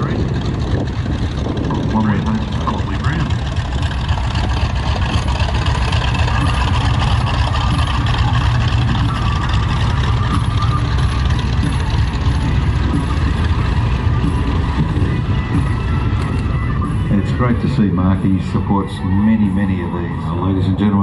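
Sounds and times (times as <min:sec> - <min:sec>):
radial piston engine rumbling: 0:00.0 - 0:21.0.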